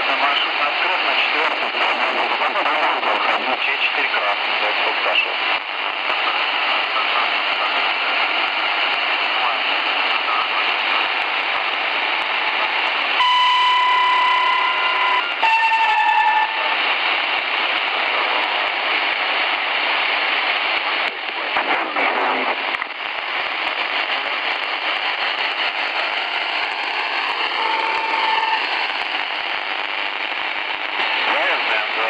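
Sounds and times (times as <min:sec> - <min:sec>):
radio static hiss: 0:00.0 - 0:32.0
steady radio tone: 0:00.0 - 0:32.0.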